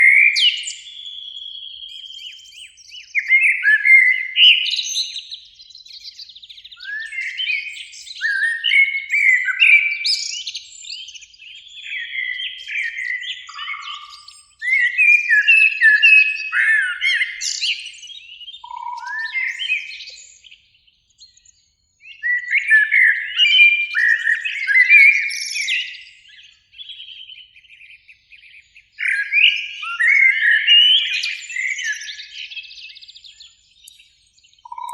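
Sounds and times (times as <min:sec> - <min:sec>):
blackbird singing: 0:00.0 - 0:34.9.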